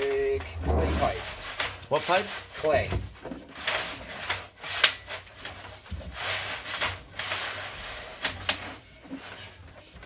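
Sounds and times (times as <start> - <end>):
cable scraping in drain pipe: 0.0 - 10.0.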